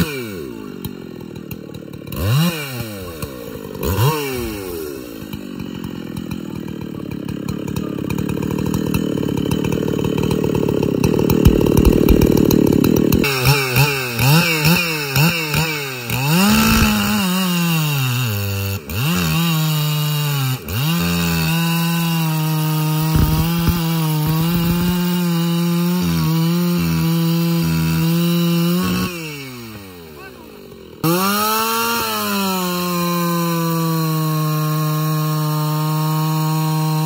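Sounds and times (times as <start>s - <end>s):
chainsaw revving and cutting log: 0.0s - 37.0s.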